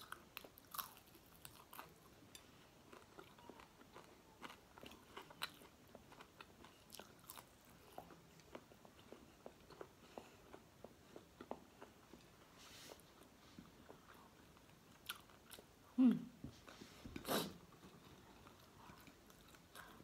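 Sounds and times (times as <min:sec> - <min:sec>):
person chewing crunchy food: 0:00.0 - 0:12.4, 0:13.0 - 0:15.7, 0:17.7 - 0:20.0.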